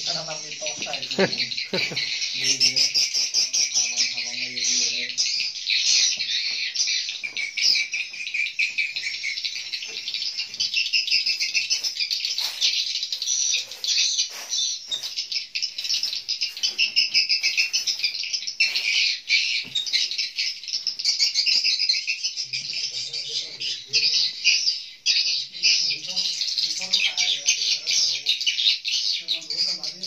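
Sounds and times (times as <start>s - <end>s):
swiftlets twittering: 0.0s - 28.4s.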